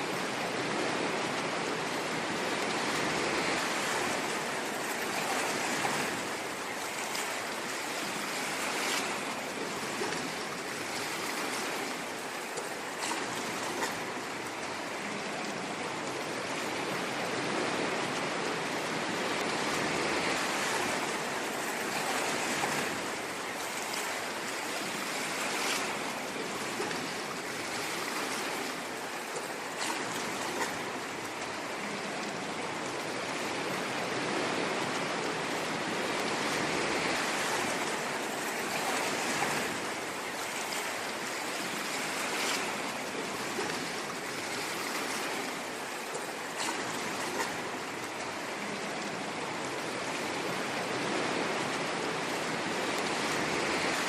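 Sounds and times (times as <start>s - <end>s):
fizzing crackles of surf: 0.0s - 54.0s
ocean waves breaking on shore: 0.0s - 54.0s.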